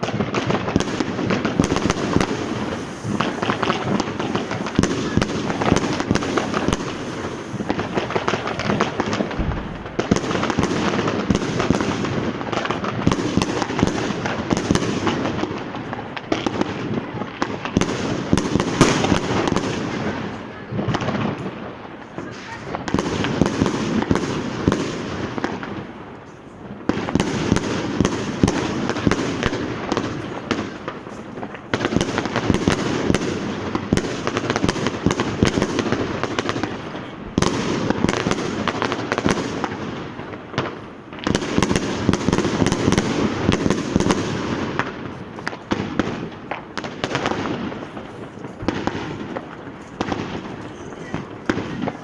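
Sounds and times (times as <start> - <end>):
firecrackers crackling: 0.0 - 52.0.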